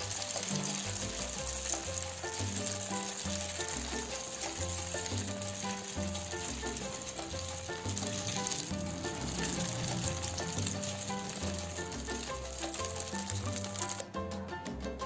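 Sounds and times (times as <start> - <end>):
egg sizzling in hot oil: 0.0 - 14.8
background music: 0.0 - 15.0.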